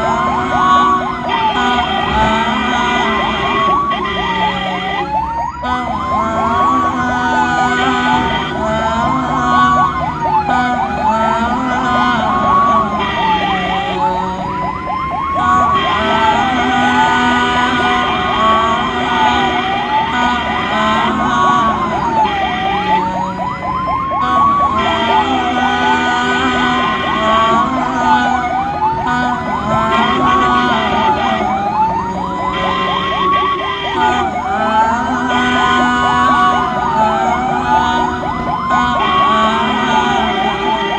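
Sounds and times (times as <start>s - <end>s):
ambulance siren wailing and yelping: 0.0s - 40.9s
steady high tone: 0.0s - 40.9s.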